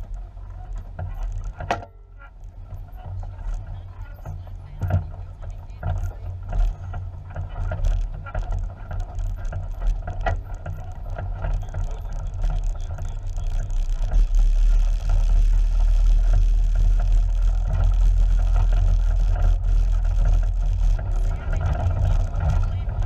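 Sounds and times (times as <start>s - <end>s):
off-road vehicle engine rumble: 0.0s - 23.0s.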